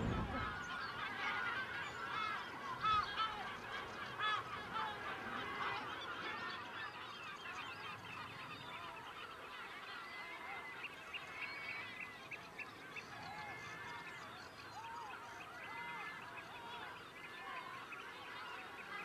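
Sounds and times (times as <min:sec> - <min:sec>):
seabirds calling: 0:00.0 - 0:19.0.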